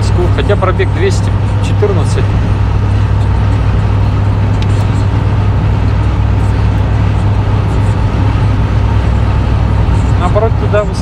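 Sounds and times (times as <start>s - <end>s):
diesel engine droning under throttle: 0.0s - 11.0s
tyre and road noise: 0.0s - 11.0s.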